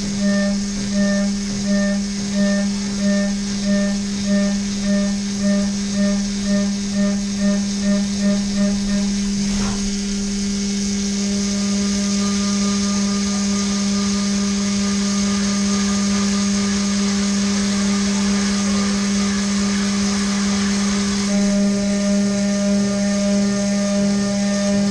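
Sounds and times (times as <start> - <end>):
milling machine cutting tone: 0.0 - 24.9.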